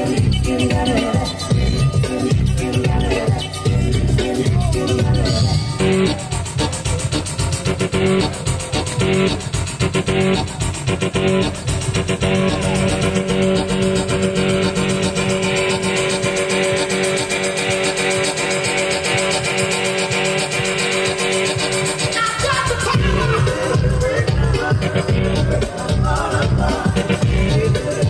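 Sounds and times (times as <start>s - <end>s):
dance music with steady beat: 0.0s - 28.0s.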